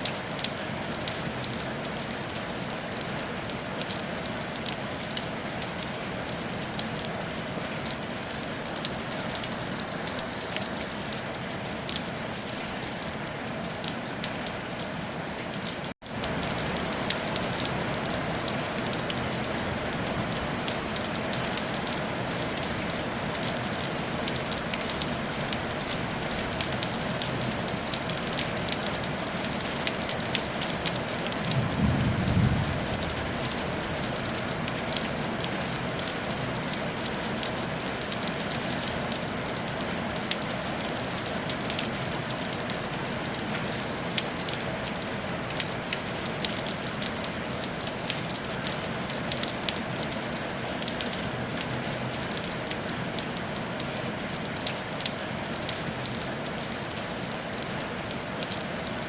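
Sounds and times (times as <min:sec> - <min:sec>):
rain on a tile roof: 0:00.0 - 0:59.0.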